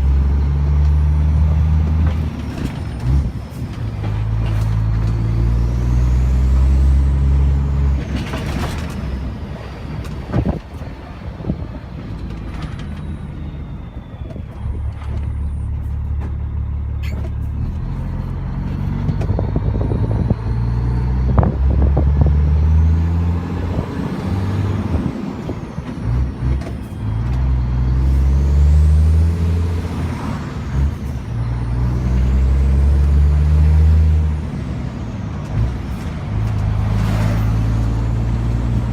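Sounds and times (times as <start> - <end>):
diesel truck engine pulling hard: 0.0 - 38.9.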